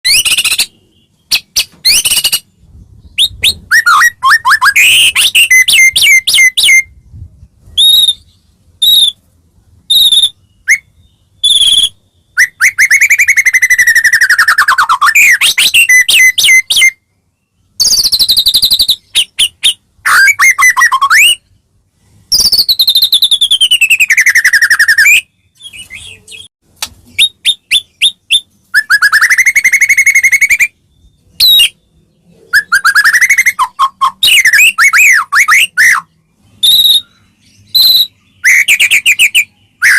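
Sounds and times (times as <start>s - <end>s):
songbird whistling song: 0.0s - 9.2s, 9.8s - 39.9s.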